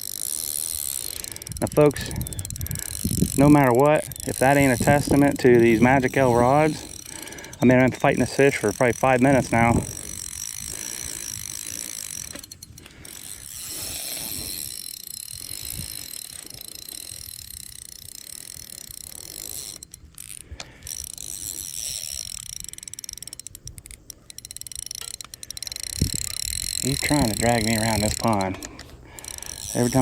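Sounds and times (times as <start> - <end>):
fishing reel ratcheting: 0.0 - 30.0.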